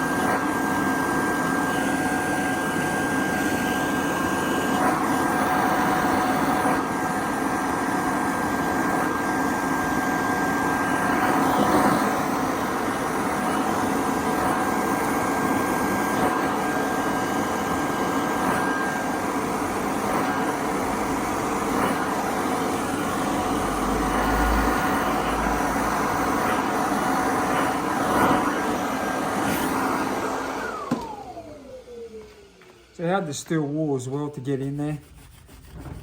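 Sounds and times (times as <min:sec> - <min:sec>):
power tool motor whining: 0:00.0 - 0:33.0.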